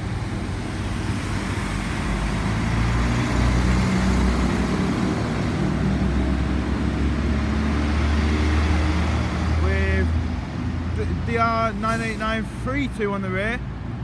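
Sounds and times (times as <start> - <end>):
diesel engines pulling away: 0.0 - 14.0.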